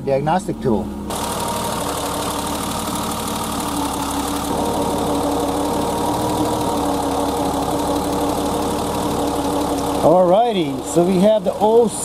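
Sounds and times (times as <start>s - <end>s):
car engine idling: 0.5s - 12.0s.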